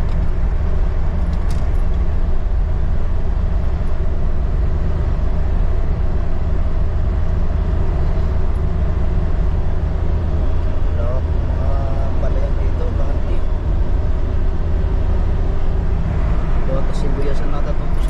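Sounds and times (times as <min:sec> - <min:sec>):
vehicle driving on road: 0:00.0 - 0:18.0.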